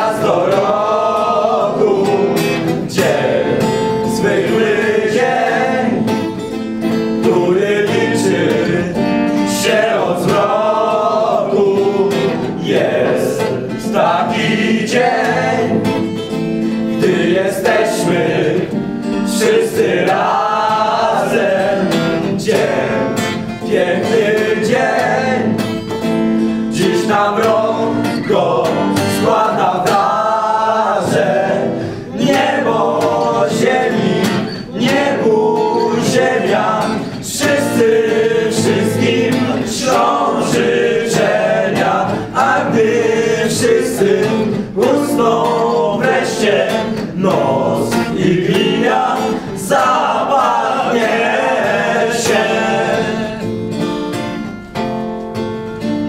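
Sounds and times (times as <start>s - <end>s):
group of men singing: 0.0s - 53.7s
strummed acoustic guitar: 0.0s - 56.0s.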